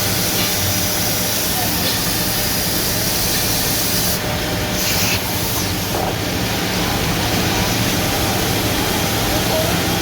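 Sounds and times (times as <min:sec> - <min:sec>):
drilling machine humming and hissing: 0:00.0 - 0:10.0.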